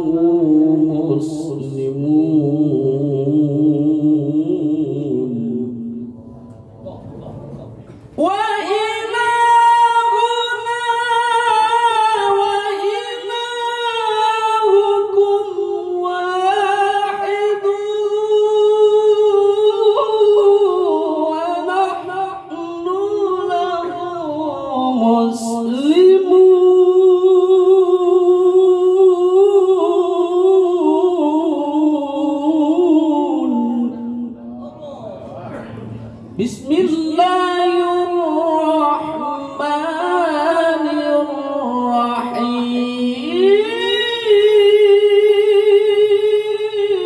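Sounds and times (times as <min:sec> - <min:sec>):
person reciting melodically: 0:00.0 - 0:07.5, 0:08.1 - 0:47.0.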